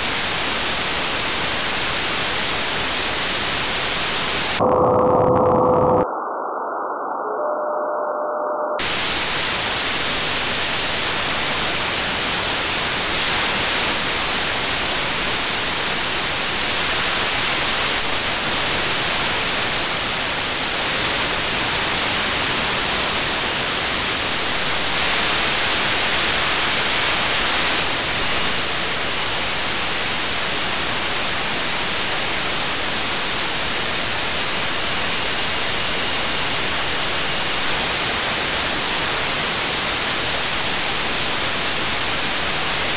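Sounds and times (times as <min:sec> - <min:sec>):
radio static hiss: 0:00.0 - 0:06.0, 0:08.8 - 0:42.9.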